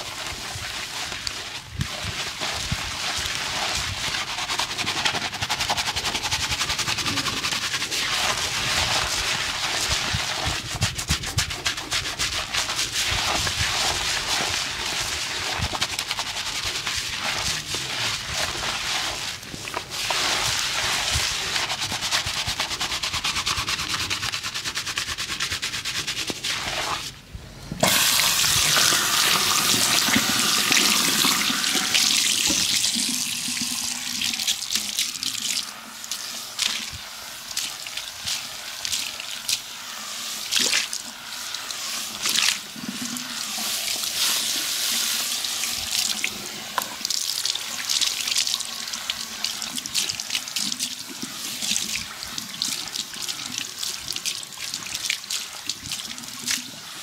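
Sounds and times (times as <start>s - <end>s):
water running and splashing: 0.0s - 24.0s, 27.8s - 57.0s.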